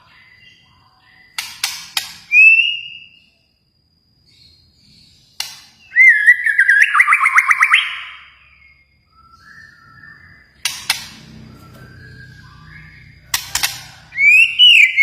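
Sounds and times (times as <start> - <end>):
bird singing with whistles and trills: 0.0 - 3.5, 4.2 - 15.0.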